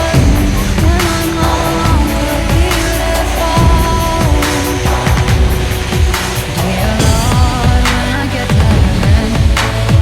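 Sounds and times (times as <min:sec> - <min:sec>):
loud electronic music: 0:00.0 - 0:10.0.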